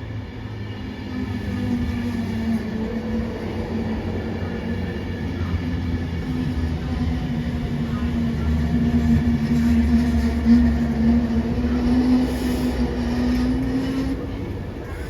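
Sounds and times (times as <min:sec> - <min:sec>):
train humming with held tones: 0:00.0 - 0:15.0
wheel on rail rumble: 0:00.6 - 0:15.0.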